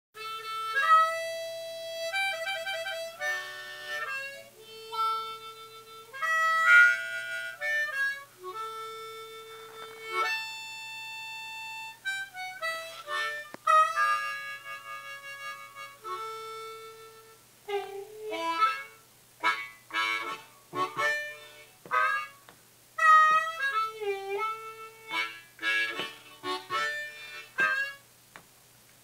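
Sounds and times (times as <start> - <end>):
harmonica melody: 0.2 - 28.1.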